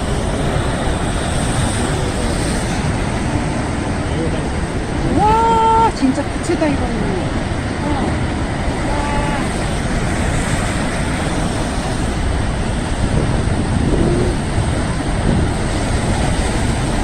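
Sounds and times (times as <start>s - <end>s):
sea waves on rocky shore: 0.0s - 17.0s.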